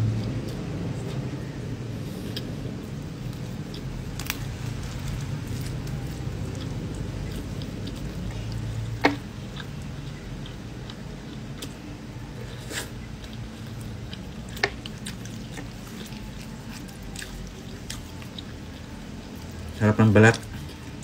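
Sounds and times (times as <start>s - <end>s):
steady low hum: 0.0s - 21.0s
wet chewing and lip smacking: 0.0s - 21.0s.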